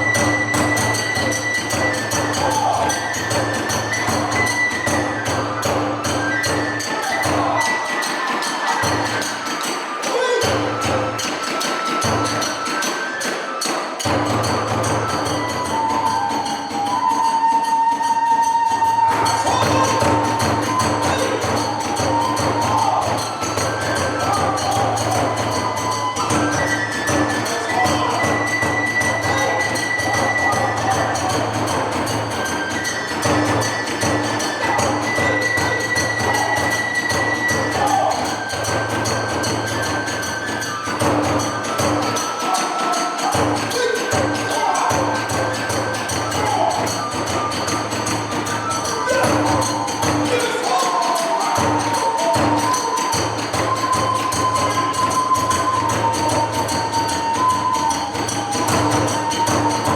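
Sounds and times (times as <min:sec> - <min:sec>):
taiko drum beating: 0:00.0 - 0:09.6, 0:14.0 - 0:59.9
flute holding high note: 0:00.0 - 0:59.9
hand cymbals clashing: 0:00.0 - 0:59.9.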